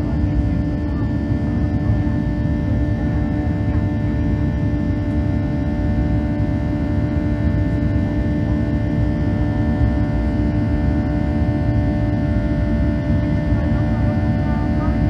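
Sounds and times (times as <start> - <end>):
jet engines heard inside cabin: 0.0 - 15.0.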